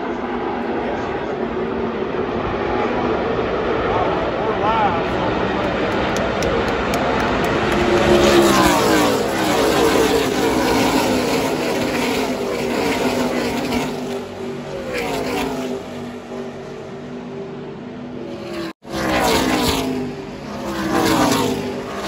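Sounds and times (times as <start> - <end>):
crowd and track roar: 0.0 - 22.0
race car engines passing: 0.0 - 22.0.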